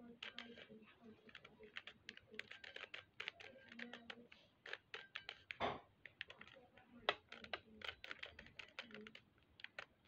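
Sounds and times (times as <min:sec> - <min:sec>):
plastic rasp: 0:00.0 - 0:10.0
puzzle cube plastic clicks: 0:00.0 - 0:10.0.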